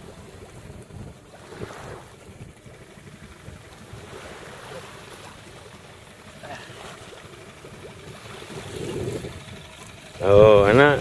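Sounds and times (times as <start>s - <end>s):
small waves washing on sand: 0.0s - 10.1s
wind buffeting microphone: 0.0s - 11.0s.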